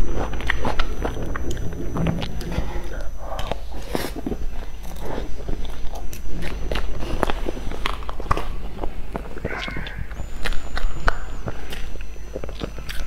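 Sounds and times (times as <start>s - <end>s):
person chewing cake: 0.0s - 13.0s.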